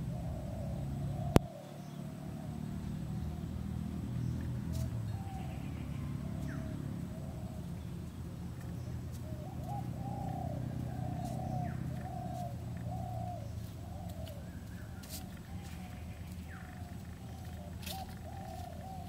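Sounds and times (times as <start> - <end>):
bird cooing: 0.0 - 19.0.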